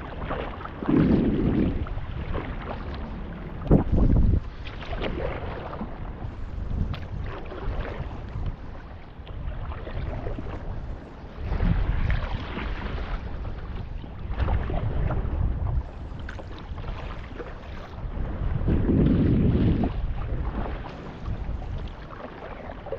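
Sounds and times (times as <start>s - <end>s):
water splashing from paddle strokes: 0.0s - 22.9s
wind buffeting microphone: 0.0s - 22.9s.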